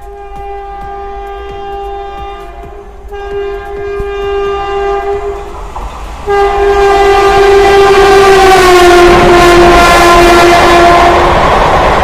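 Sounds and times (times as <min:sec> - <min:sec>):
locomotive horn blasts: 0:00.0 - 0:05.5, 0:06.3 - 0:11.4
train running noise: 0:00.0 - 0:12.0.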